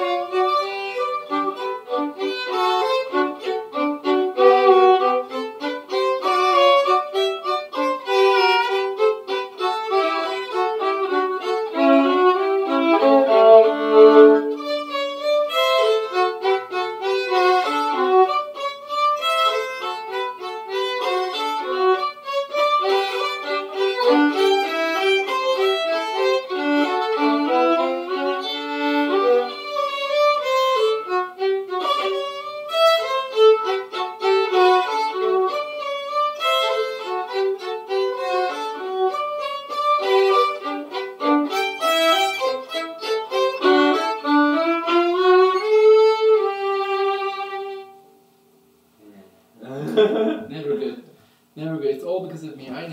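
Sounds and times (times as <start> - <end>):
two violins playing: 0.0 - 48.2.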